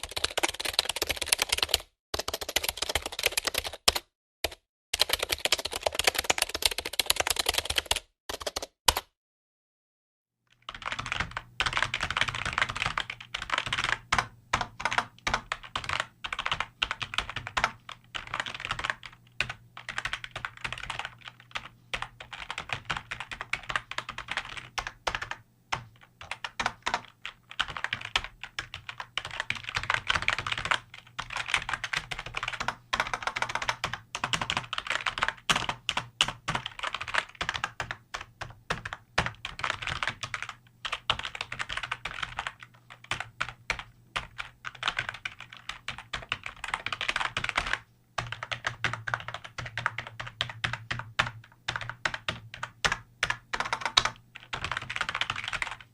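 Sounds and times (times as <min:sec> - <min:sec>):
fast keyboard typing: 0:00.0 - 0:09.1, 0:10.5 - 0:55.9.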